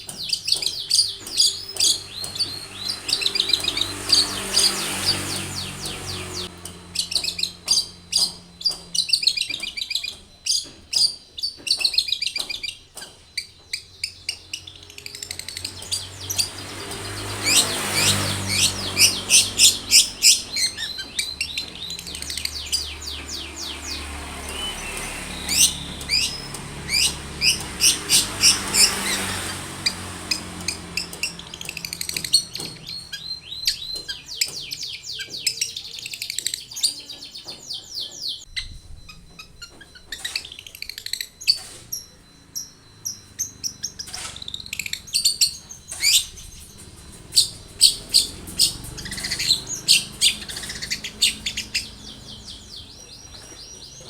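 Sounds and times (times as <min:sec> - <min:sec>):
bird chirps and trills: 0:00.0 - 0:54.0
harsh ticking bird chatter: 0:00.0 - 0:54.0.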